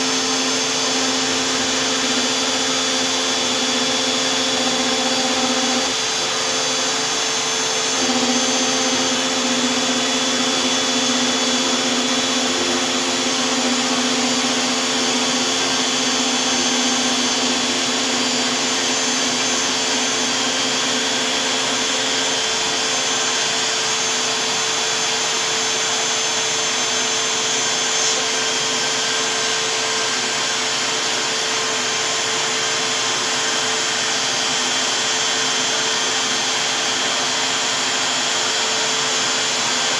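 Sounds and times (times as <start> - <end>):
router whining and cutting: 0.0 - 39.9.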